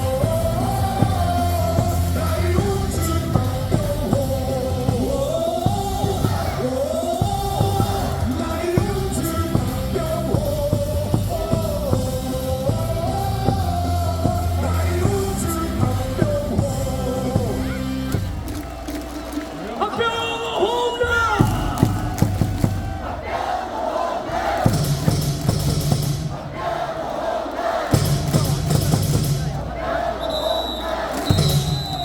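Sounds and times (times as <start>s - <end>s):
crowd yelling: 0.0s - 10.6s, 11.3s - 32.0s
rock cheer song over loudspeakers: 0.0s - 23.2s, 27.9s - 32.0s.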